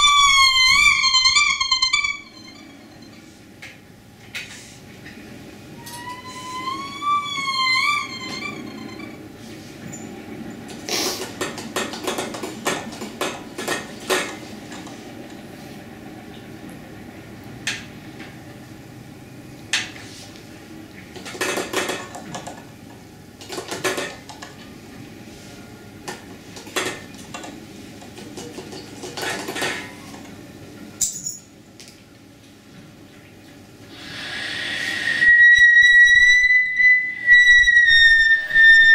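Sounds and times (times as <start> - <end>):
steady background hum: 0.0 - 38.9.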